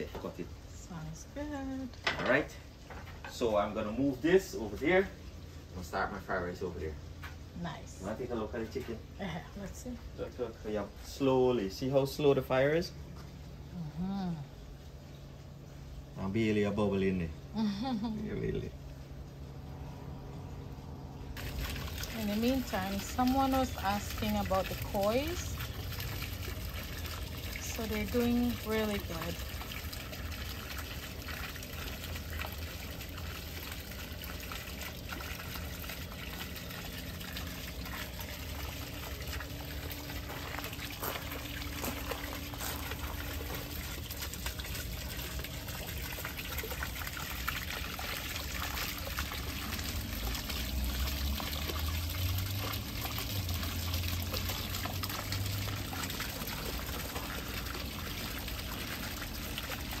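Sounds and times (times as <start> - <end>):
water trickling into pond: 0.0 - 60.0.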